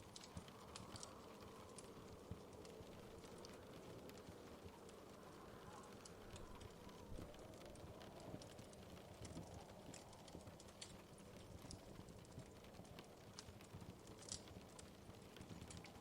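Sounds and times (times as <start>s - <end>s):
low rush of flames: 0.0s - 16.0s
wood fire crackling: 0.0s - 16.0s.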